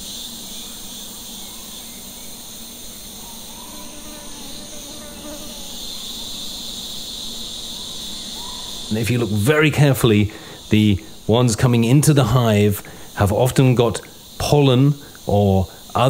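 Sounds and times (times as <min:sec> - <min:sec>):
bees buzzing: 0:00.0 - 0:16.0
insects chorus: 0:00.0 - 0:16.0.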